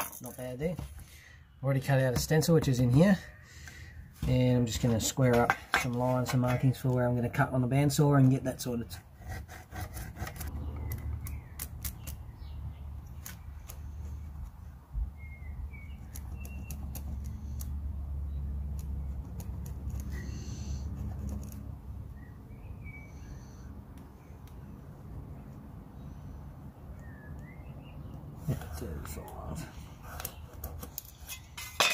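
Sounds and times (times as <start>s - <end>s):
birds chirping: 0.2s - 5.7s, 10.2s - 20.9s, 22.0s - 31.9s.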